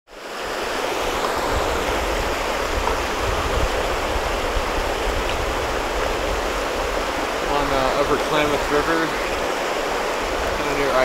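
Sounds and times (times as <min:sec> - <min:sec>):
river rushing over rocks: 0:00.1 - 0:11.0.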